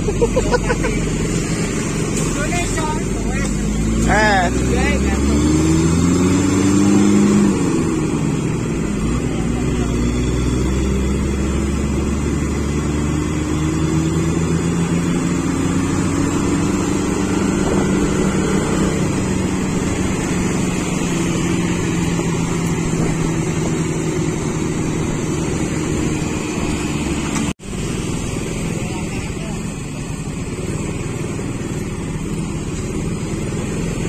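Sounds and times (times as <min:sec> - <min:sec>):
road and wind noise: 0:00.0 - 0:34.0
vehicle engine running: 0:00.0 - 0:34.0.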